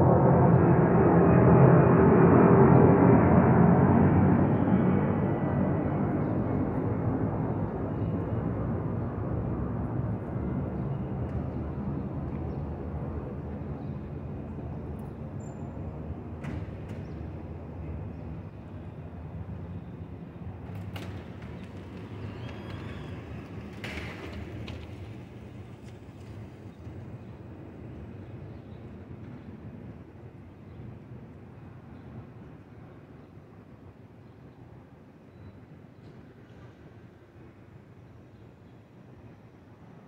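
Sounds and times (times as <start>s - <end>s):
jet airliner rumble overhead: 0.0s - 40.0s.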